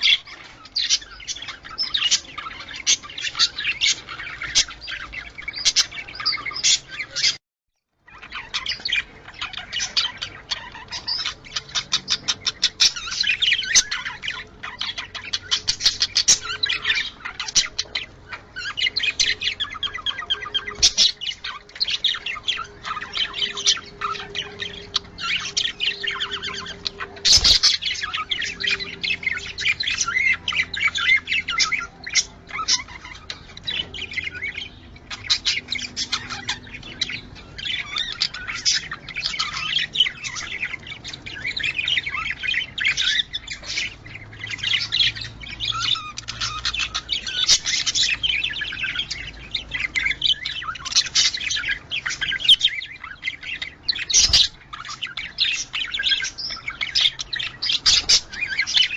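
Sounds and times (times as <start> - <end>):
budgerigars chattering and warbling: 0.0 - 7.4, 8.0 - 58.9.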